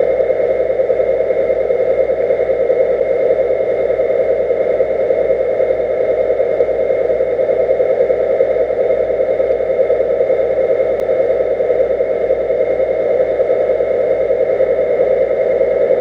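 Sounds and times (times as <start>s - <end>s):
faint high whine: 0.0s - 16.0s
underwater mechanical hum: 0.0s - 16.0s.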